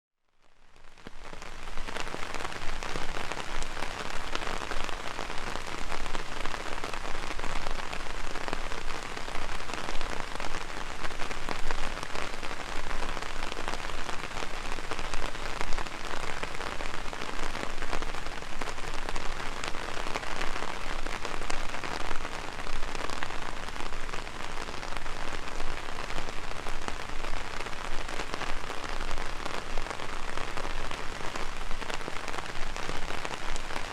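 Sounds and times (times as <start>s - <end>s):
heavy rain on an umbrella: 0.3s - 33.9s.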